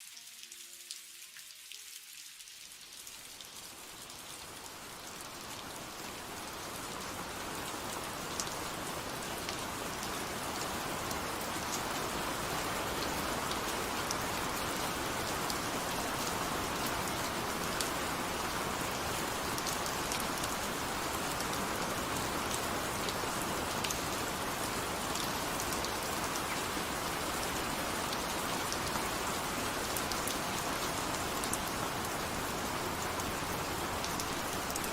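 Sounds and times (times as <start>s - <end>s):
raindrops ticking on a surface: 0.0s - 34.9s
steady rain falling: 0.0s - 34.9s.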